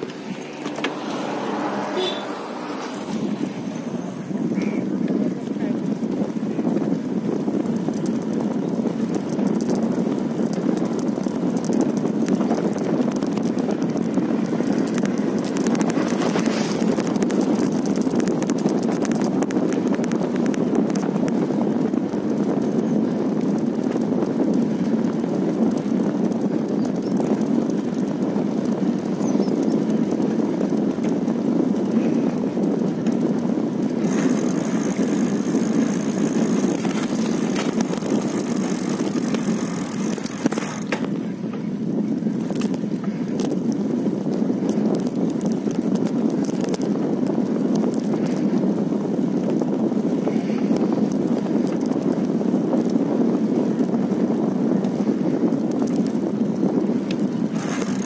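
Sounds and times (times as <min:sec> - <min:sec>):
faint bicycle rattles: 0:00.0 - 0:58.0
tyre and wind noise: 0:00.0 - 0:58.0.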